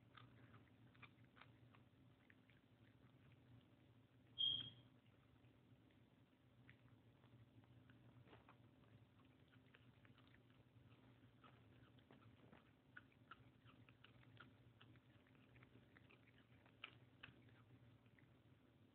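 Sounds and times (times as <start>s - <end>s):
dog chewing: 0.0s - 18.9s.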